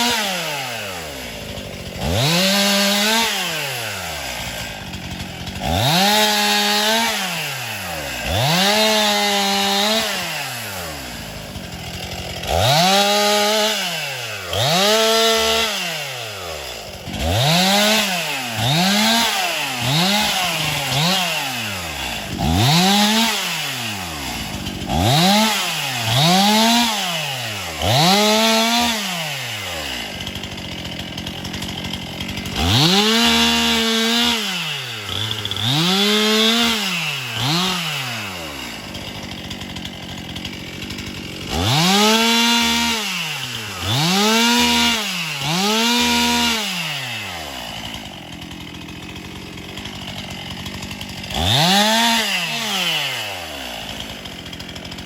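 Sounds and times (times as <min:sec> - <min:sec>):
chainsaw engine revving: 0:00.0 - 0:55.0
chainsaw idling: 0:00.0 - 0:55.0.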